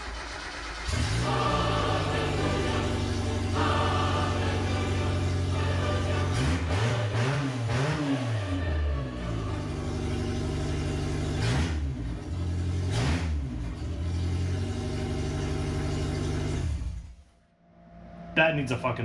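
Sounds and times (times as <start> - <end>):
unmuffled car engine revving: 0.0 - 17.2.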